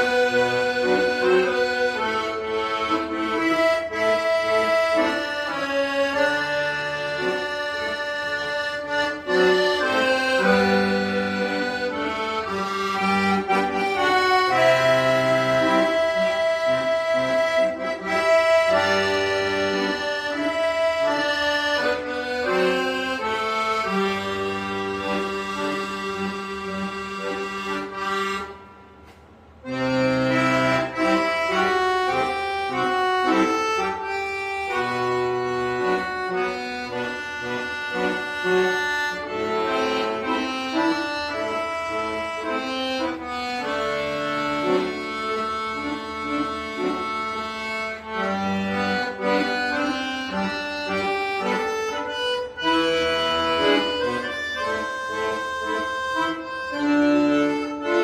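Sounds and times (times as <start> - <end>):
accordion playing a melody: 0.0 - 58.0.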